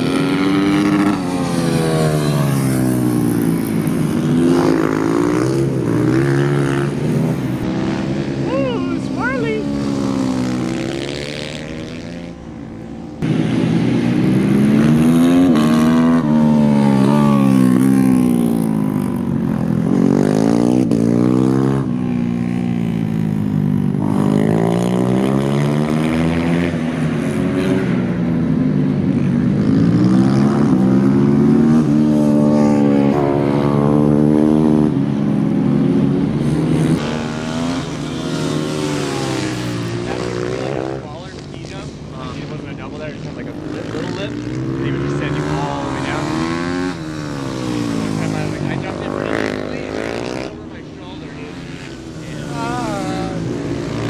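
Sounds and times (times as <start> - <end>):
race motorcycles revving: 0.0 - 54.0.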